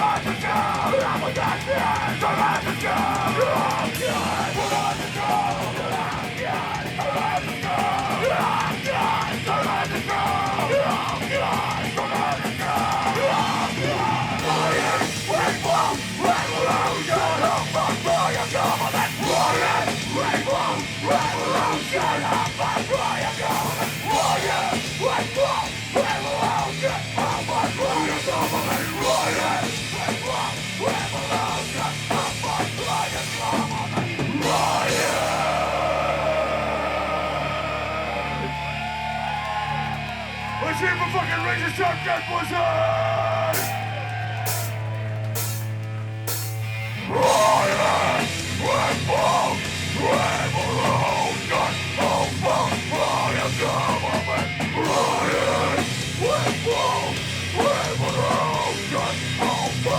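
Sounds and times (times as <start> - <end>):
shouted vocals: 0.0 - 45.6, 47.0 - 59.9
bass guitar: 0.0 - 59.9
distorted guitars: 0.0 - 59.9
rapid drumming: 0.0 - 59.9.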